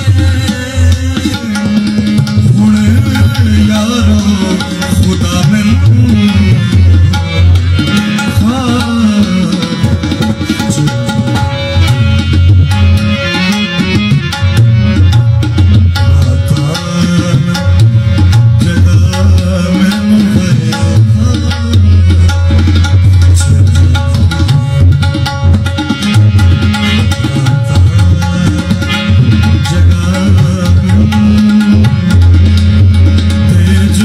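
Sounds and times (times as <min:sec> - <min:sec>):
harmonium chords: 0:00.0 - 0:34.0
tabla rhythm: 0:00.0 - 0:34.0.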